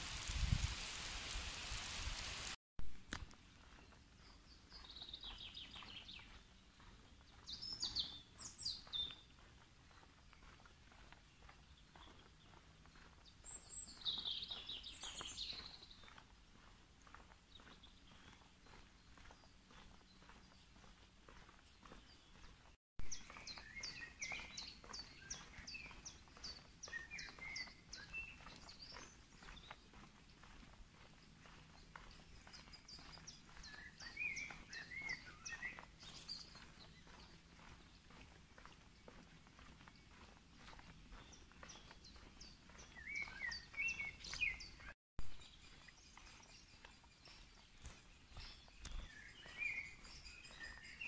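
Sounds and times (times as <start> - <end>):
footsteps on concrete: 2.8 - 51.0
songbirds singing: 3.3 - 51.0.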